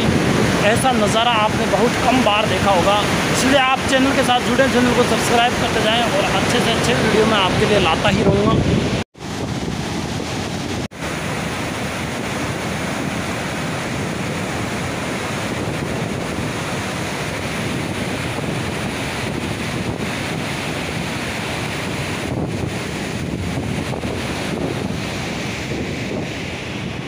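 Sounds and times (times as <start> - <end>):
water rushing through sluice: 0.0 - 27.0
wind buffeting microphone: 0.0 - 27.0.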